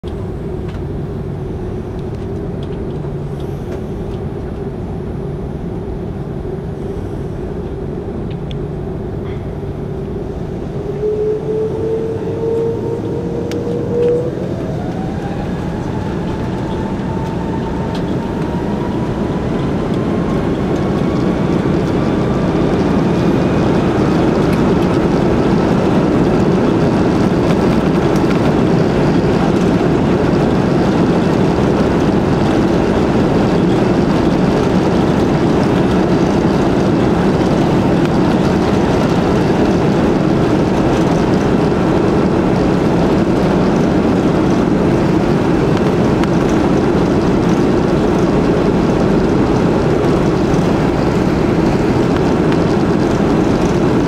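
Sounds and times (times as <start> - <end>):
jet engines spooling up: 0.2 - 54.0.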